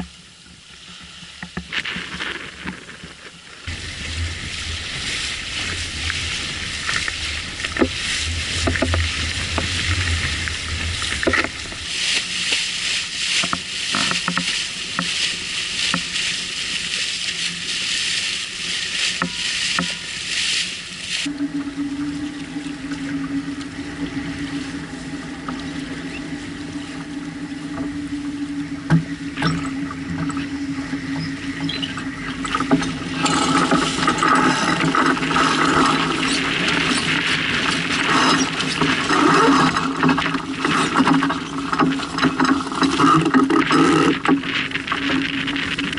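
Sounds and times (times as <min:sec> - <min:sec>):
low hum: 0:00.0 - 0:45.9
water rushing along hull: 0:00.0 - 0:45.9
wind noise on microphone: 0:01.5 - 0:45.9.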